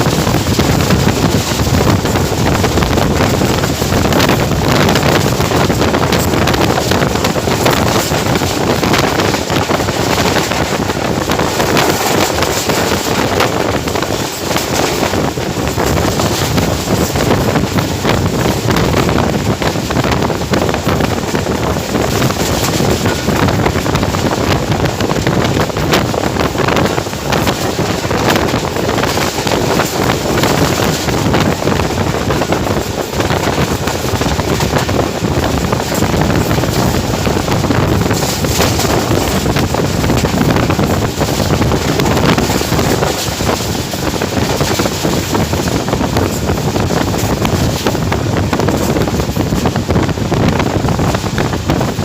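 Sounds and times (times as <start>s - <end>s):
train running at speed: 0.0s - 52.0s
wheels clattering on track: 0.0s - 52.0s
wind rushing over microphone: 0.0s - 52.0s.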